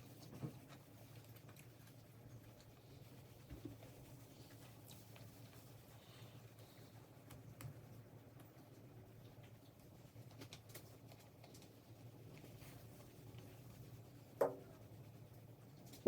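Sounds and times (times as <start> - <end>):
chewing food: 0.0 - 13.8.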